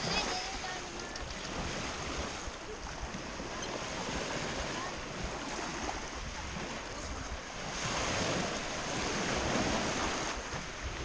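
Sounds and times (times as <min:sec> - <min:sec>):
sea water lapping: 0:00.0 - 0:11.0
wind noise on microphone: 0:00.0 - 0:11.0.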